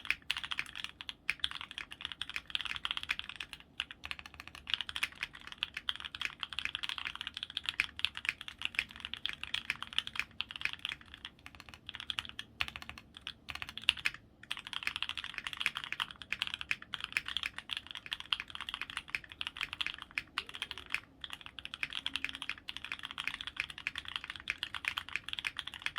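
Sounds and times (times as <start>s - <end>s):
fast typing on mechanical keyboard: 0.0s - 25.9s.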